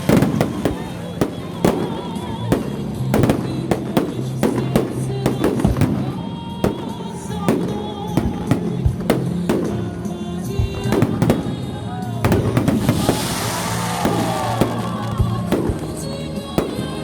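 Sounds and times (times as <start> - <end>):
fireworks exploding: 0.0 - 17.0
music playing: 0.0 - 17.0.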